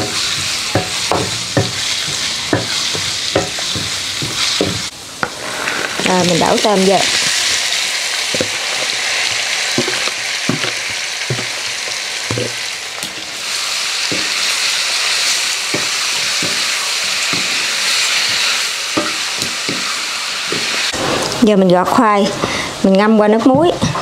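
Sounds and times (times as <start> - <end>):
shrimp sizzling in oil: 0.0 - 21.5
wooden spatula scraping wok: 0.0 - 21.6.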